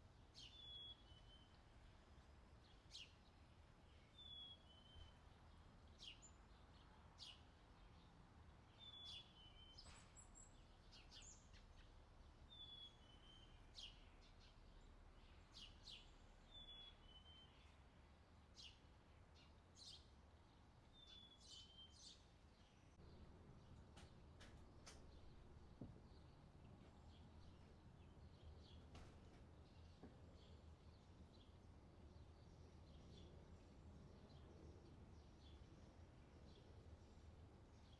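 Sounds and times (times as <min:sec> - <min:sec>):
low steady background hum: 0:00.0 - 0:37.9.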